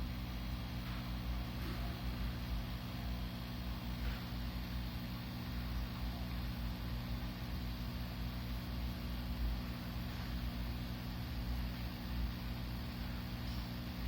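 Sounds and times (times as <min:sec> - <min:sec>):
aquarium filter humming: 0:00.0 - 0:14.0.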